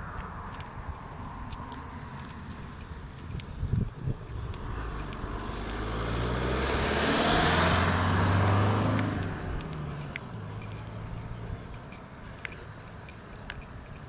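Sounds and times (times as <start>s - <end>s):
car passing by: 0.0s - 11.7s.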